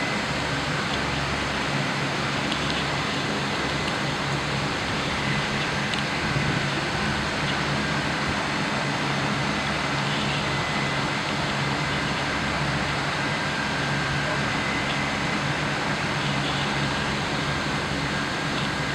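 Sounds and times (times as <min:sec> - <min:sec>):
faint high whine: 0:00.0 - 0:18.9.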